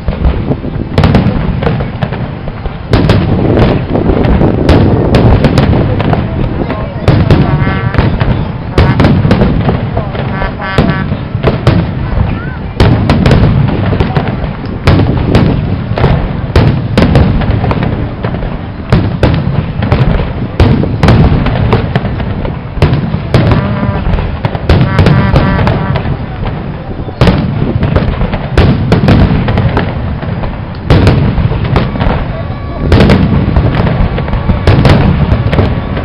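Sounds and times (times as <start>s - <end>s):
firework shells booming: 0.0s - 36.0s.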